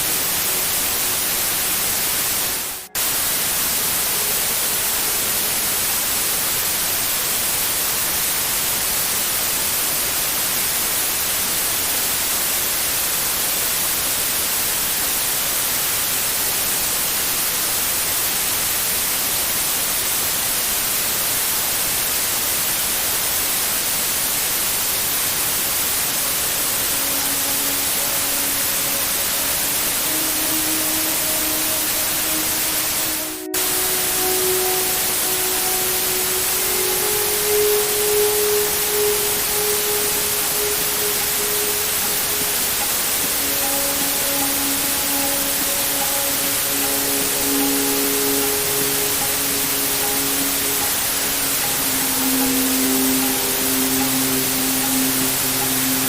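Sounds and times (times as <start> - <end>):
faint sustained tones: 0.0 - 56.0
steady white noise hiss: 0.0 - 56.0.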